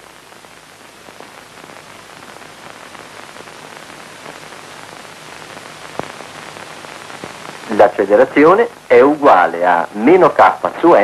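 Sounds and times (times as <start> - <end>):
old film soundtrack hiss: 0.0 - 11.0.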